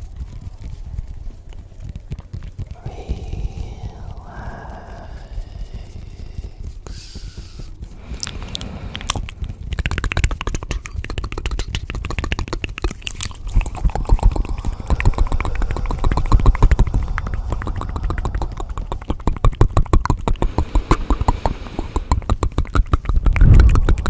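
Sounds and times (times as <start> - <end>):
low rumble: 0.0 - 22.6, 23.3 - 24.0.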